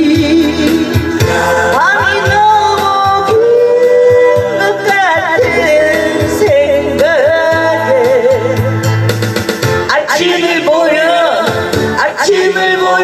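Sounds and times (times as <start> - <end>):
backing track with bass and drums: 0.0 - 13.0
person singing with vibrato: 0.0 - 13.0.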